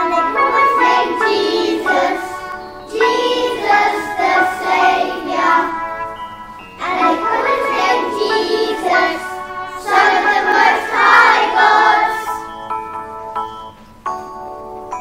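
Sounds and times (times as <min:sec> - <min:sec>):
children singing together: 0:00.0 - 0:06.2, 0:06.8 - 0:12.6
backing music: 0:00.0 - 0:15.0.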